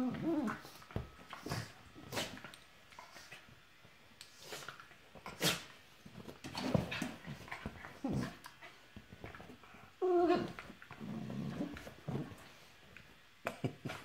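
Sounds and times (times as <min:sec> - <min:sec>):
dogs play-fighting snaps: 0:00.4 - 0:09.6, 0:11.7 - 0:14.0.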